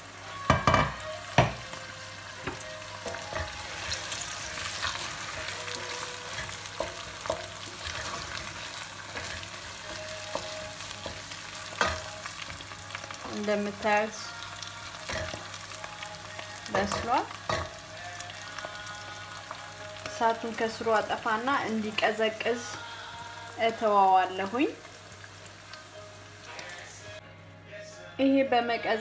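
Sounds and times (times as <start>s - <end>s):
meat filling sizzling in a pot: 0.0s - 27.2s.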